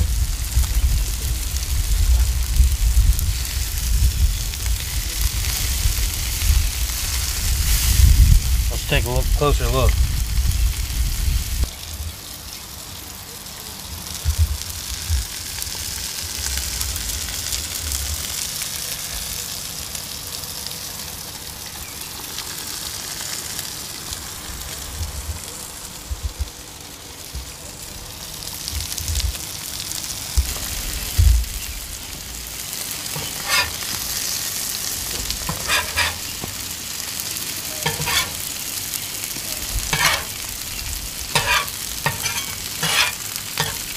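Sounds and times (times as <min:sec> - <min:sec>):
food sizzling on griddle: 0:00.0 - 0:43.9.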